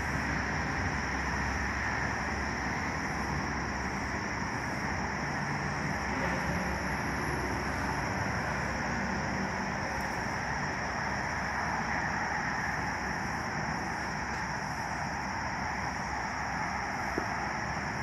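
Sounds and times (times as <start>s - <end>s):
constant high hiss: 0.0s - 18.0s.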